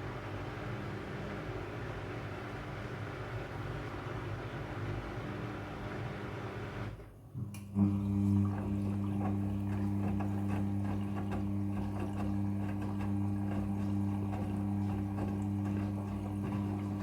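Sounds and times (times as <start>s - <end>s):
washing machine electric hum: 0.0s - 17.0s.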